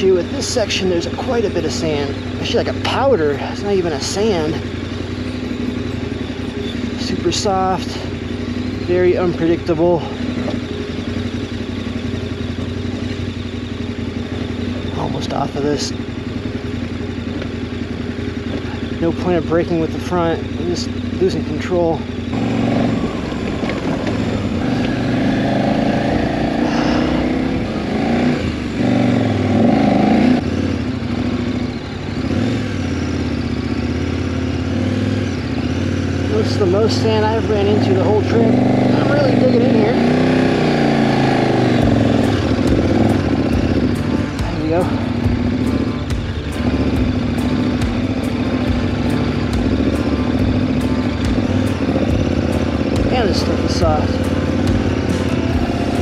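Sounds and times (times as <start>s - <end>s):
motorcycle engine under throttle: 0.0s - 56.0s.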